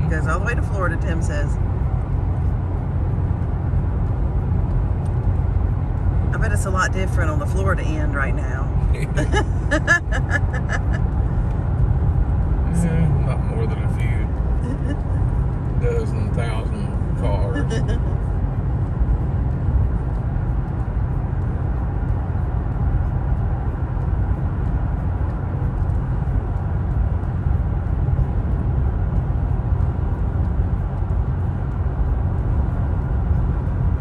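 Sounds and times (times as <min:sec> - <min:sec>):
car cabin road noise: 0:00.0 - 0:34.0.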